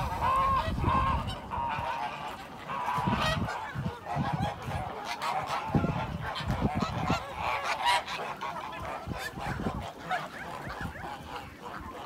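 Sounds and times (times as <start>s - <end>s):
flock of birds calling: 0.0s - 12.0s.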